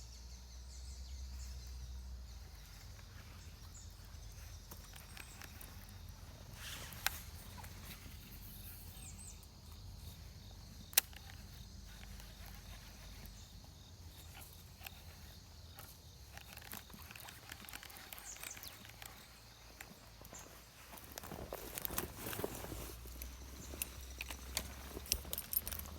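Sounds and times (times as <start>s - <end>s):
small ticks: 2.3s - 25.9s.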